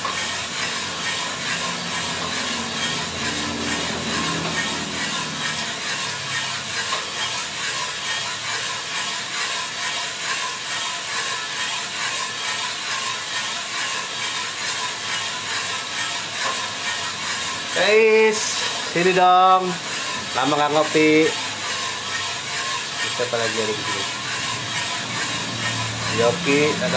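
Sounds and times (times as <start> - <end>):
coffee beans tumbling in roaster drum: 0.0 - 26.9.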